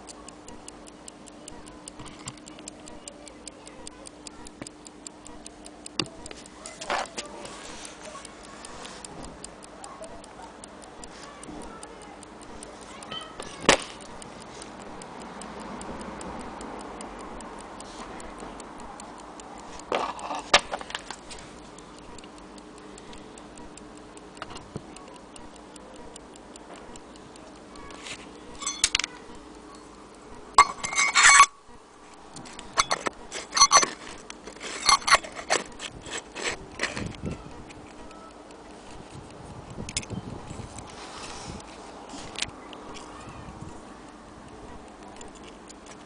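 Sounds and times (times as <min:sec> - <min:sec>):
clockwork ticking rapidly: 0:00.0 - 0:46.0.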